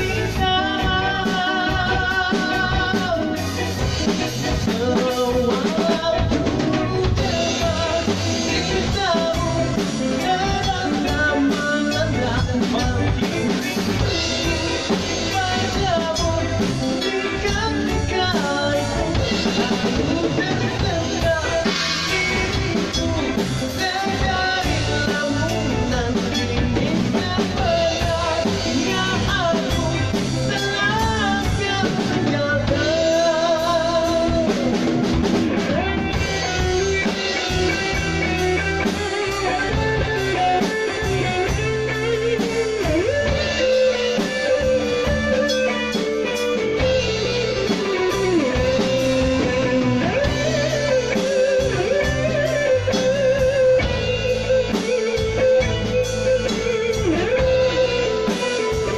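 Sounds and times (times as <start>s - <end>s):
bass guitar: 0.0s - 58.9s
drum kit: 0.0s - 58.9s
electric guitar: 0.0s - 58.9s
keyboard: 0.0s - 58.9s.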